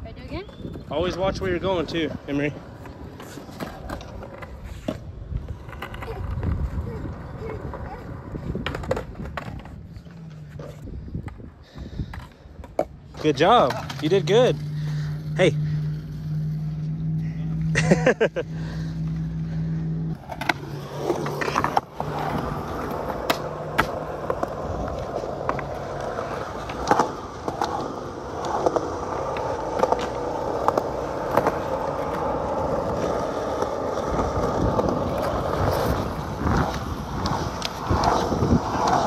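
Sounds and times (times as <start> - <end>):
skateboard wheels rolling on concrete: 0.0 - 39.0.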